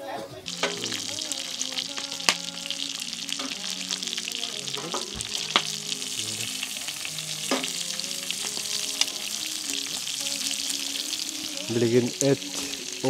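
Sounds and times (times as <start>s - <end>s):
food sizzling in hot oil: 0.4s - 13.0s.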